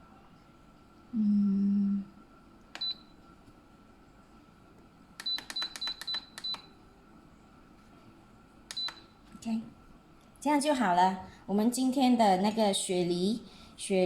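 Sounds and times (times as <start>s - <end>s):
low steady buzz: 0.0s - 14.0s.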